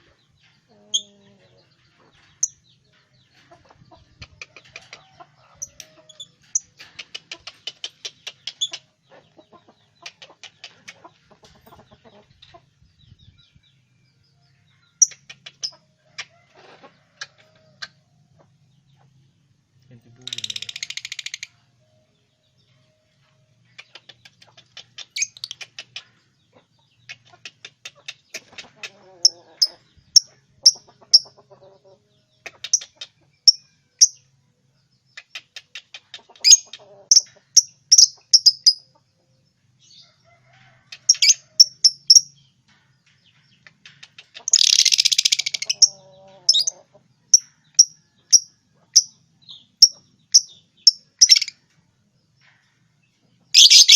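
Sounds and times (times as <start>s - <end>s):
harsh bird chatter: 0.0s - 13.4s, 14.9s - 19.2s, 19.9s - 21.6s, 23.6s - 34.2s, 35.0s - 39.0s, 39.8s - 53.9s
lovebirds chirping: 0.0s - 19.2s, 19.9s - 53.9s.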